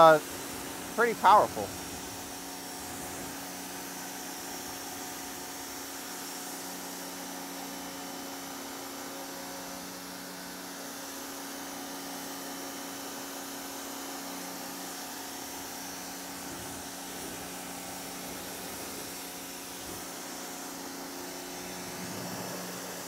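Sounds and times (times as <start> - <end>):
high-pressure water spray hiss: 0.0 - 23.0
pressure washer motor hum: 0.0 - 23.0.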